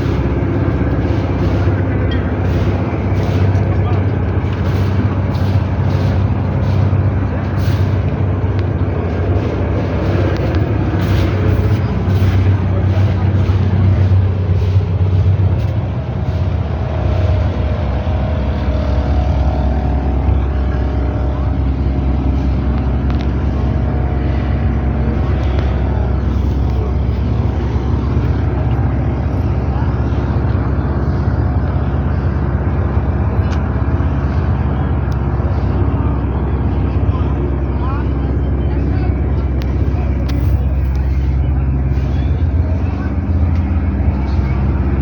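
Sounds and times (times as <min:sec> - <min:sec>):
boat engine rumbling: 0:00.0 - 0:45.0.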